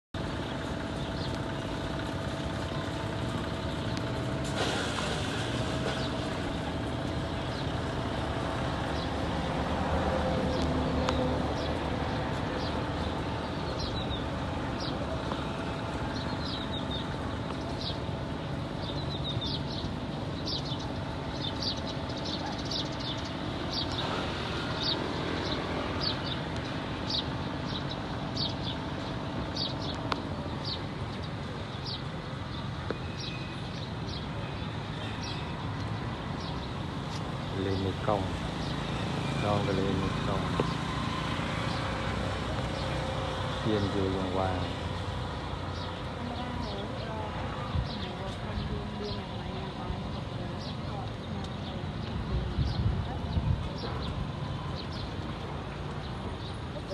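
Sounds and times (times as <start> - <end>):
motor vehicles rumbling: 0.1 - 56.9.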